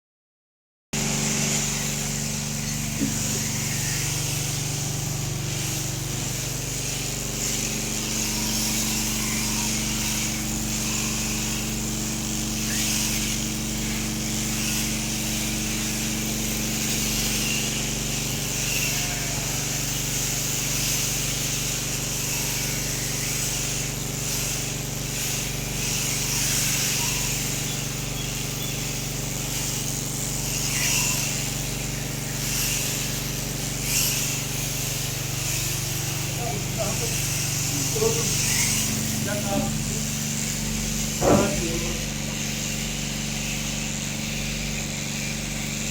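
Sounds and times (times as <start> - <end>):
electric clippers running: 1.0 - 45.9.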